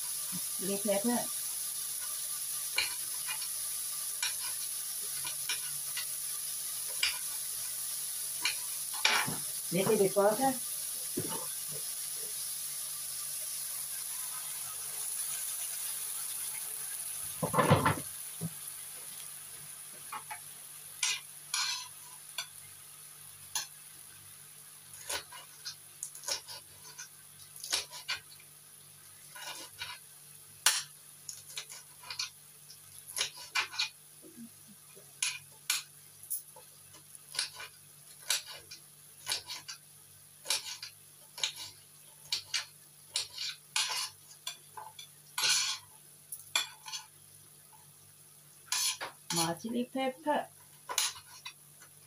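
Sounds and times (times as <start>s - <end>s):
meat sizzling in frying pan: 0.0s - 52.0s.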